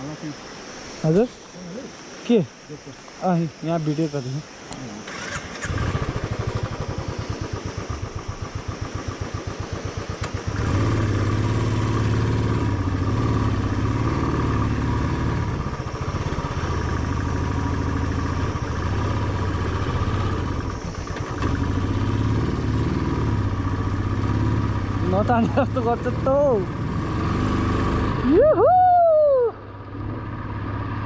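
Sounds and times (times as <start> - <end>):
motorcycle engine idling and revving: 4.8 - 28.6, 29.4 - 31.0.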